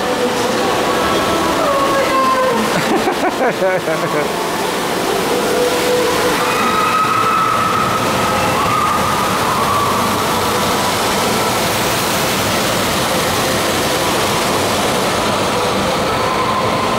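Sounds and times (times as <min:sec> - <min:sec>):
rushing water and waterfall: 0:00.0 - 0:16.9.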